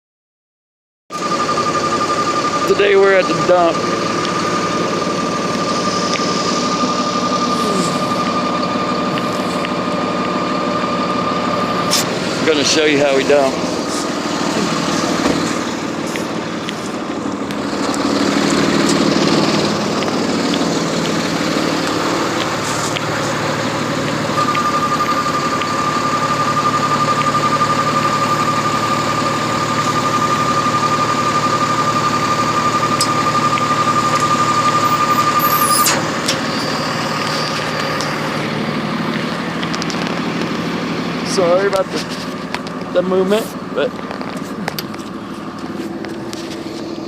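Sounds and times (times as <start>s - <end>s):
high-pitched whine: 1.1s - 47.0s
truck engine running: 1.1s - 47.0s.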